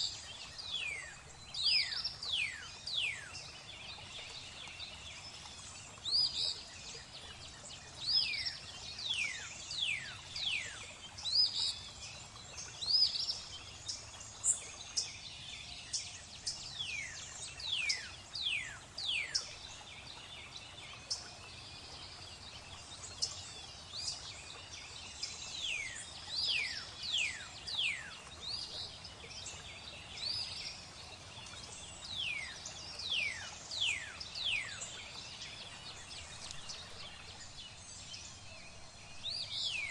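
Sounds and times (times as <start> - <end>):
flowing water hiss: 0.0 - 39.9.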